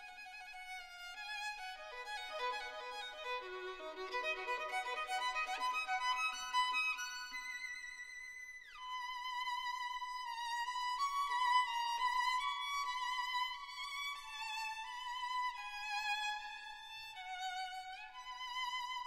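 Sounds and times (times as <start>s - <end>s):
solo violin melody: 0.0s - 19.0s.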